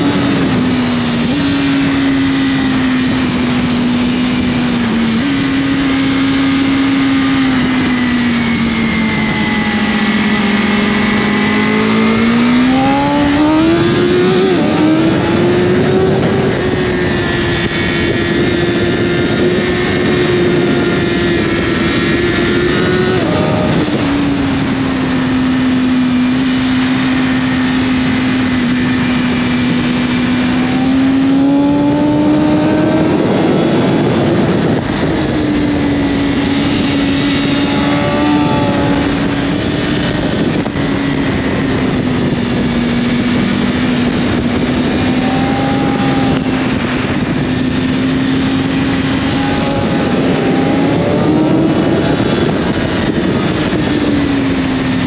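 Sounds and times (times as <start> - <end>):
motorcycle engine revving: 0.0 - 55.0
rushing wind: 0.0 - 55.0.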